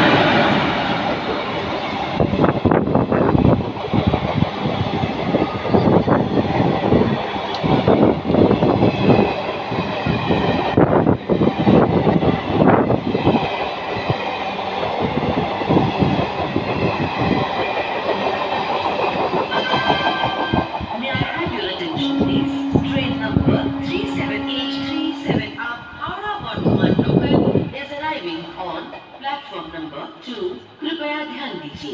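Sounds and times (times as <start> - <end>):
train rushing rumble: 0.0 - 30.0.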